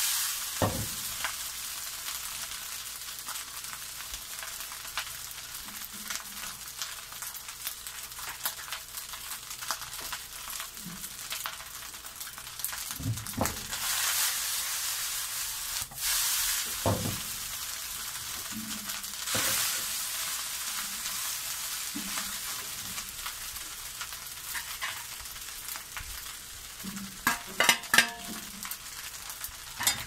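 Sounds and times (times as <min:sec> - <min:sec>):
rice sizzling in a wok: 0:00.0 - 0:30.0.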